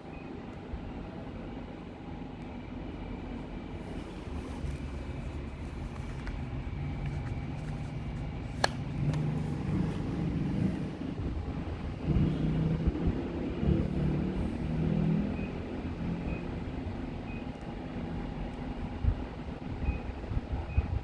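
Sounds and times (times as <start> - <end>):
air conditioner running: 0.0 - 21.0.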